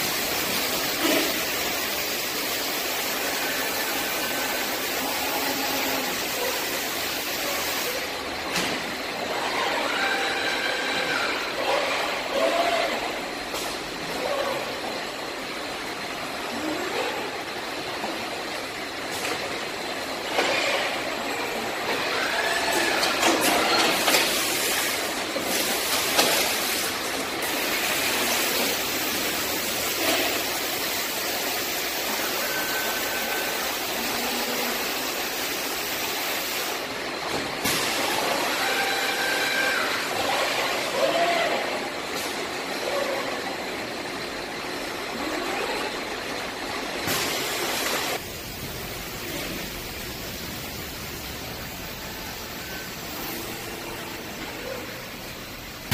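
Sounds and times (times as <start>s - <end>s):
conveyors and robot arms running: 0.0s - 55.9s.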